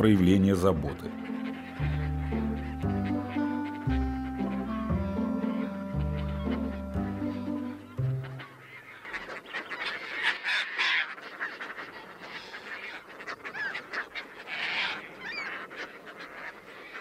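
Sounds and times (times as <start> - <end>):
tern colony calling: 0.0 - 17.0.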